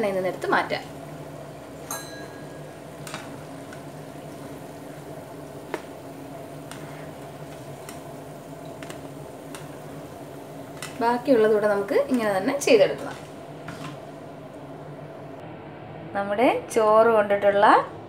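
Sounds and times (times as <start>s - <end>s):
food deep-frying in oil: 0.0s - 15.4s.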